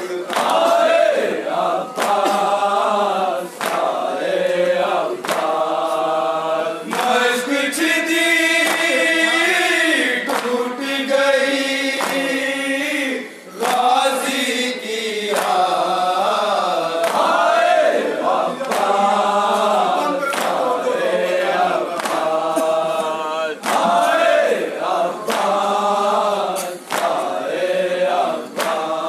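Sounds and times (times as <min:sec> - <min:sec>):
men chanting through a microphone: 0:00.0 - 0:29.0.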